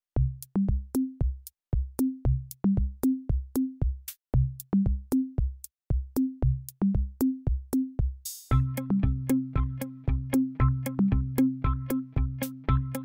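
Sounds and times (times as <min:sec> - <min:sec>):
electronic music with drum-machine beat: 0:00.3 - 0:13.0.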